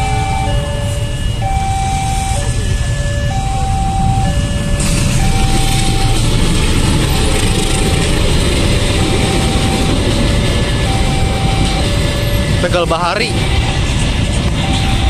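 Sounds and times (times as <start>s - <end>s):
diesel train arriving: 0.0s - 15.0s
level crossing two-tone alarm: 0.0s - 15.0s
motorcycles idling rumble: 0.0s - 15.0s.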